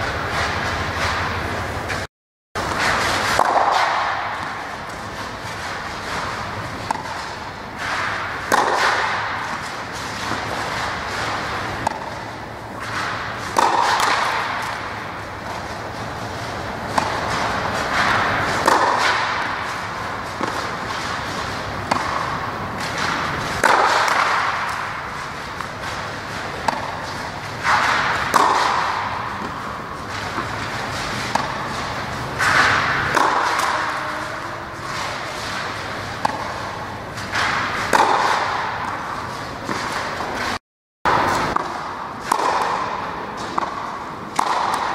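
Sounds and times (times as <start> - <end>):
tennis ball hit by racket: 2.6 - 44.9
tennis ball bouncing: 2.7 - 44.9.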